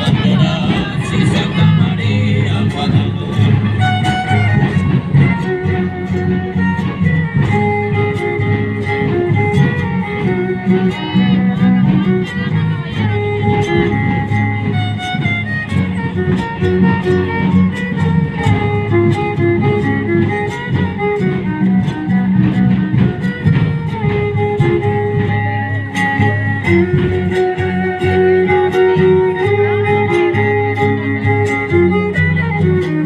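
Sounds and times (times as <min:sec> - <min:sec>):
strummed and plucked guitars: 0:00.0 - 0:33.0
violin melody: 0:00.0 - 0:33.0.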